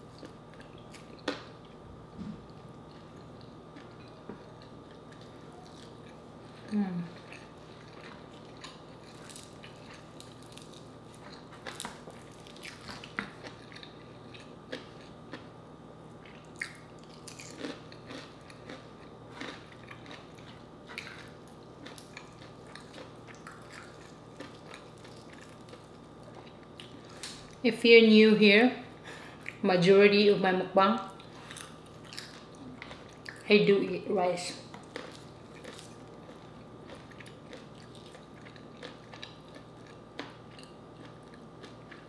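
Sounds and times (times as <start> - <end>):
faint steady hum: 0.0 - 42.0
chewing crispy fried chicken: 2.4 - 27.6, 31.0 - 33.5, 34.6 - 42.0.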